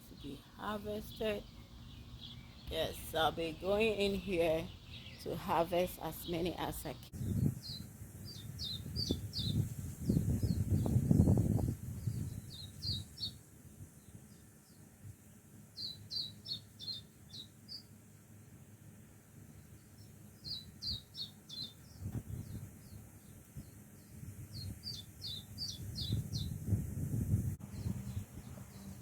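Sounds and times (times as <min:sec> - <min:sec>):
songbird chirping: 0:00.0 - 0:18.6, 0:19.4 - 0:26.8, 0:27.6 - 0:29.0.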